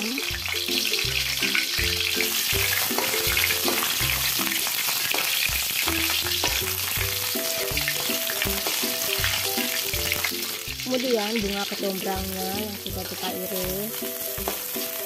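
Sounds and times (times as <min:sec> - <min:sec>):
herbs sizzling in hot oil: 0:00.0 - 0:15.0.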